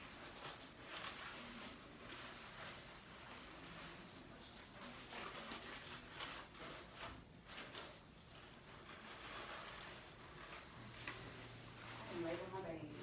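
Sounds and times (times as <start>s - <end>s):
soft rustling of plastic tubing: 0.0s - 13.0s.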